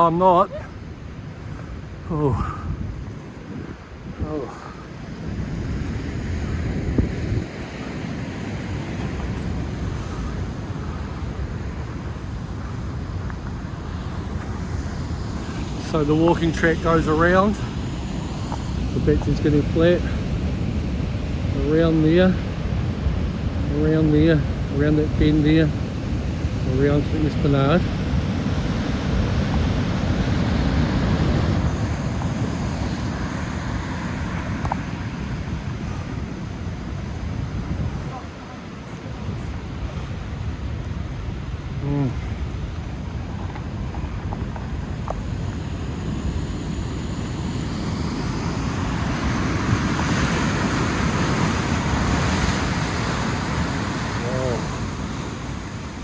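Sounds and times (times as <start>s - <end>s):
heavy surf: 0.0s - 56.0s
wind buffeting microphone: 0.6s - 56.0s.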